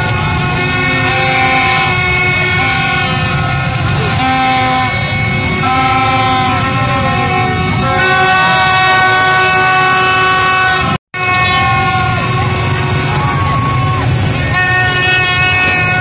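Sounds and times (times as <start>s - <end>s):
street crowd on motorbikes: 0.0s - 16.0s
vehicle horns honking: 0.0s - 16.0s.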